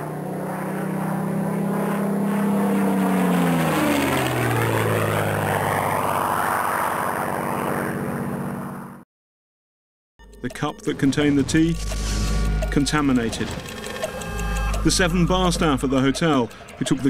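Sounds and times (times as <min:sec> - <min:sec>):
propeller plane flying past: 0:00.0 - 0:09.0, 0:11.7 - 0:17.0.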